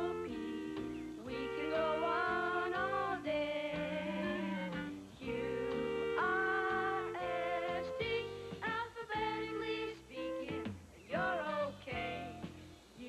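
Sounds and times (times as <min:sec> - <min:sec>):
instrumental backing: 0:00.0 - 0:13.0
woman singing: 0:00.0 - 0:13.0.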